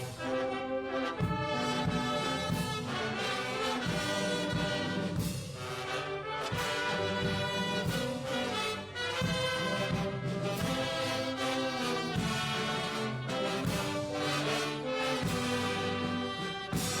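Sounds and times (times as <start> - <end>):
brass band playing an anthem: 0.0 - 17.0.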